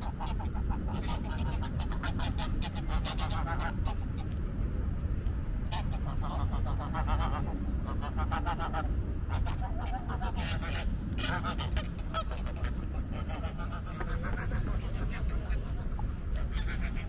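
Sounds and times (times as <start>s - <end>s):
geese honking: 0.0s - 4.4s, 5.6s - 17.0s
low outdoor rumble: 0.0s - 17.0s.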